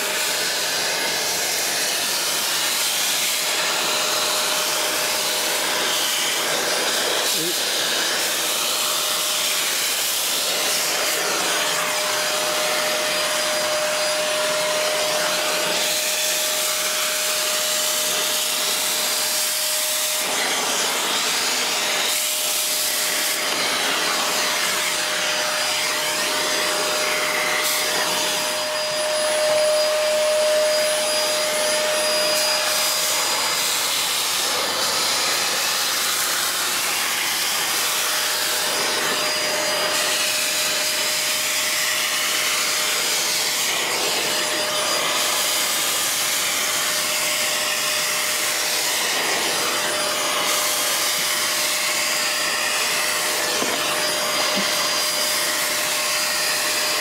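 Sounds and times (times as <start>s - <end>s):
vacuum cleaner whining: 0.0s - 57.0s.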